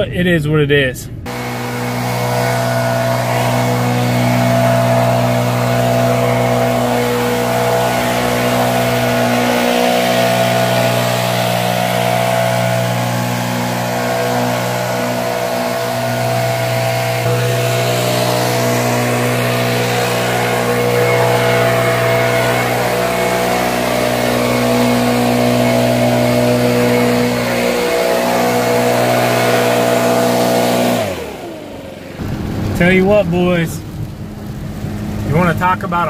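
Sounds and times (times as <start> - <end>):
engine running and winding down: 1.3 - 36.0.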